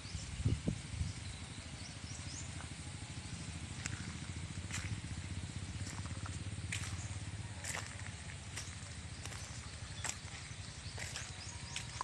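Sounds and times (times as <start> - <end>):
low rumble with flutter: 0.0 - 12.0.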